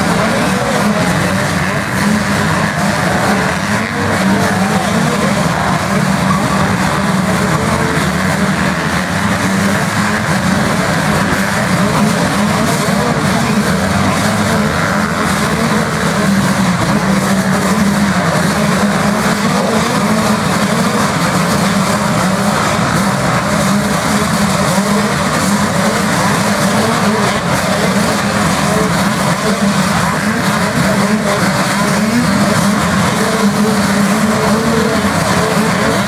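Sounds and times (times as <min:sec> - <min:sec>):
motocross bikes racing: 0:00.0 - 0:36.0.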